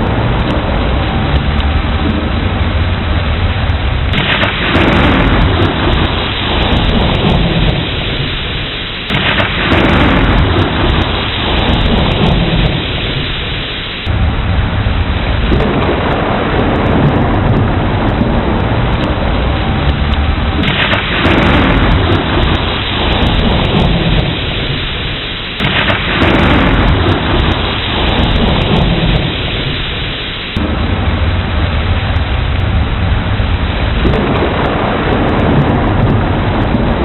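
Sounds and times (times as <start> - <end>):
heavy rain: 0.0 - 37.0
thunderclaps rumbling: 0.0 - 37.0.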